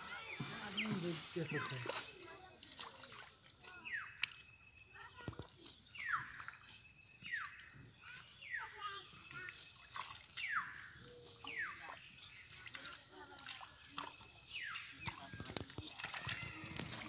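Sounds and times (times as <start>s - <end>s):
water sloshing and dripping: 0.0s - 4.4s, 5.0s - 17.0s.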